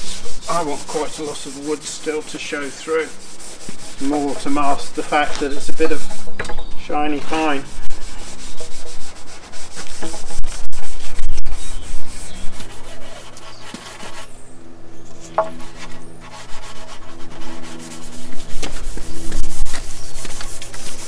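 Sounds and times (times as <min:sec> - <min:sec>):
abrasive pad scrubbing wood: 0:00.0 - 0:14.4, 0:15.1 - 0:21.0.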